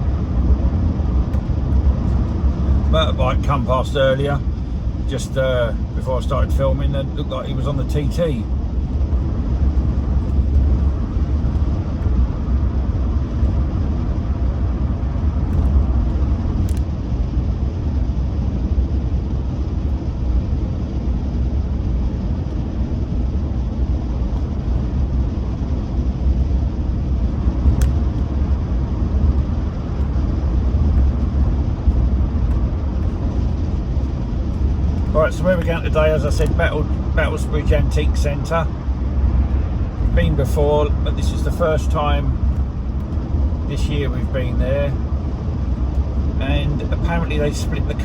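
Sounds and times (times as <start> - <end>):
car driving heard from inside: 0.0 - 18.3, 22.4 - 48.0.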